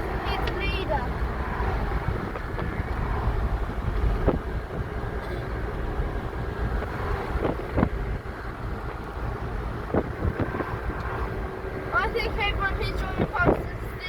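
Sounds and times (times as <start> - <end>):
road traffic rumble: 0.0 - 14.0
wind buffeting microphone: 0.0 - 14.0.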